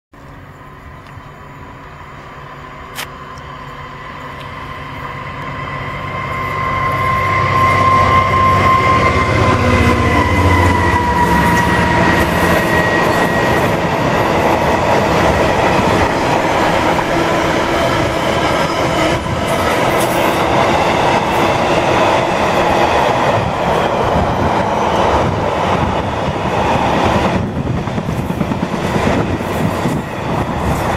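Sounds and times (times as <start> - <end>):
diesel locomotive passing: 0.2 - 30.9
locomotive whine: 0.2 - 30.9
train wagons rumbling past: 0.2 - 30.9.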